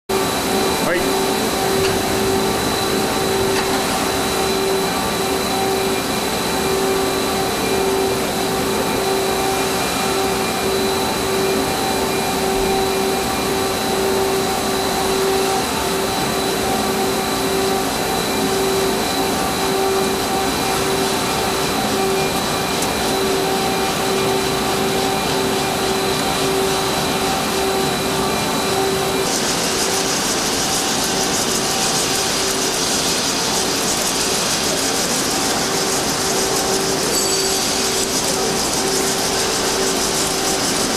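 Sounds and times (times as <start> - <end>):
lathe whirring with high whine: 0.1 - 40.9.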